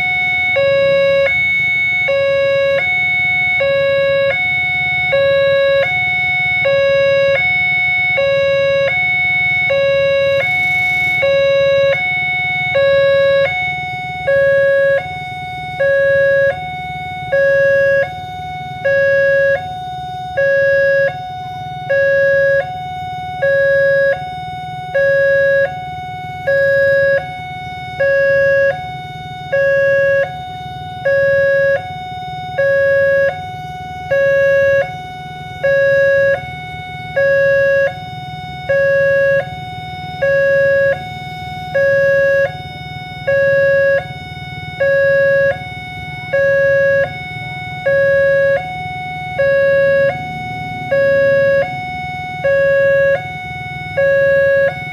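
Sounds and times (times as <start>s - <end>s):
two-tone warning siren: 0.0s - 54.9s.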